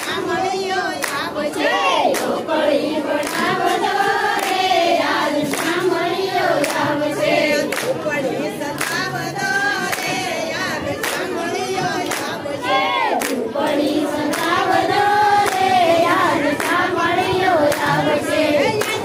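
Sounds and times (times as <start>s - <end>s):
hands clapping in steady beat: 0.0s - 19.0s
women singing in unison: 0.0s - 19.0s.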